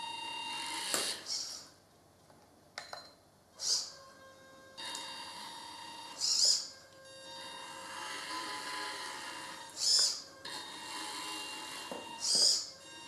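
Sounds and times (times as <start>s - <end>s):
electric motor whine: 0.0s - 1.6s, 3.7s - 13.0s
servo high-pitched buzzes: 0.0s - 1.7s, 3.6s - 13.0s.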